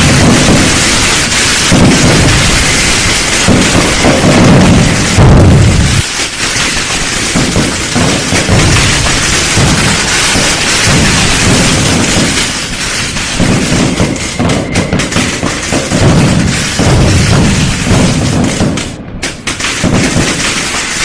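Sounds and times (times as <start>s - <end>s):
fireworks crackling and booming: 0.0s - 21.0s.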